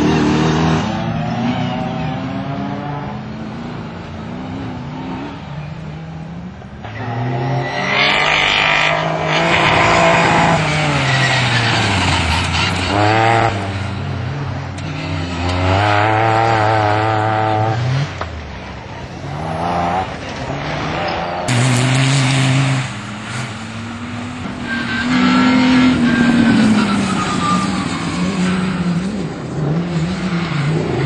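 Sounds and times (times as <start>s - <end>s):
racing car engine passing by: 0.0s - 31.0s.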